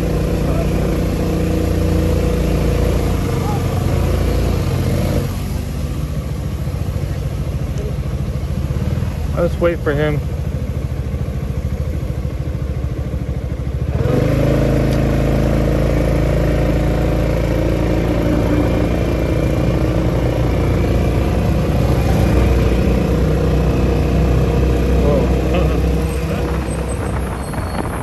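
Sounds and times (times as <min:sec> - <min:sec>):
motorcycle engine idling and revving: 0:00.0 - 0:28.0.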